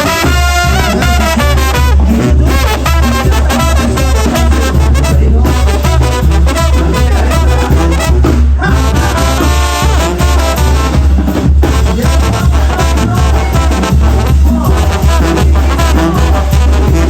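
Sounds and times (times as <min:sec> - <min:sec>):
brass band playing: 0:00.0 - 0:17.0
pulsing bass line: 0:00.0 - 0:17.0.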